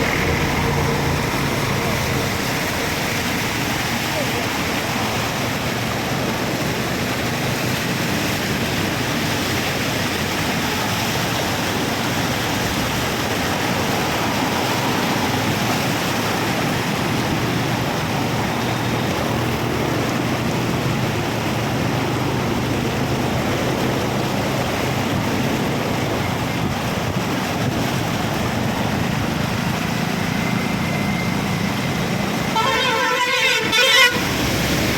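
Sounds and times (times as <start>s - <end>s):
low vehicle engine hum: 0.0s - 34.9s
road traffic: 0.0s - 34.9s
rushing water: 0.0s - 34.9s.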